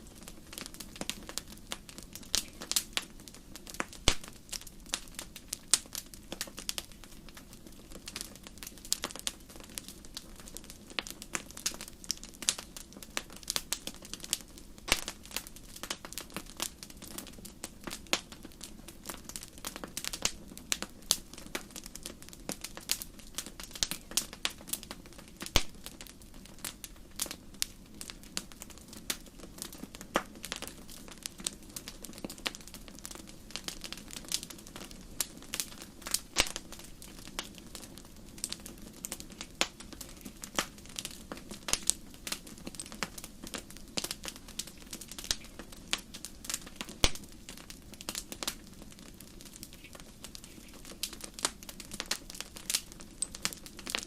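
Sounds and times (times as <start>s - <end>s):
campfire crackling: 0.0s - 54.0s
hiss of burning: 0.0s - 54.0s.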